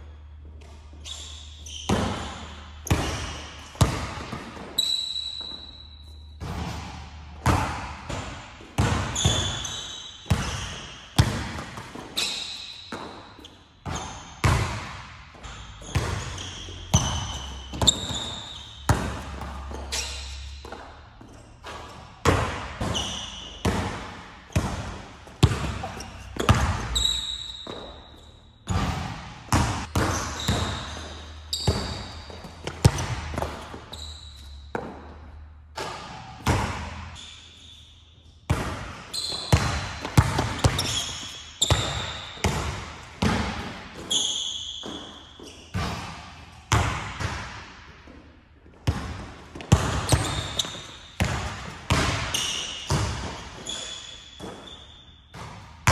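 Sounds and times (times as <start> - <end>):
sneakers squeaking: 0.0 - 55.9
basketball bouncing on court: 0.3 - 37.3, 38.4 - 55.9.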